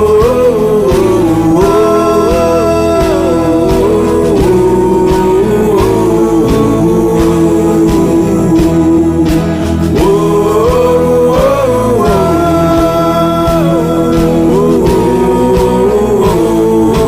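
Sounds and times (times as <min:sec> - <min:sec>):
rock song: 0:00.0 - 0:17.0
sliding melody line: 0:00.0 - 0:17.0
steady drum beat: 0:00.0 - 0:17.0.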